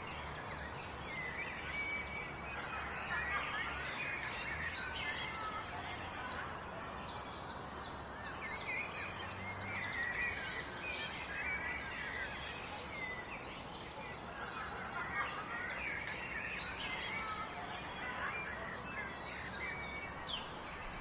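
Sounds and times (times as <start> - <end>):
small birds singing: 0.0 - 21.0.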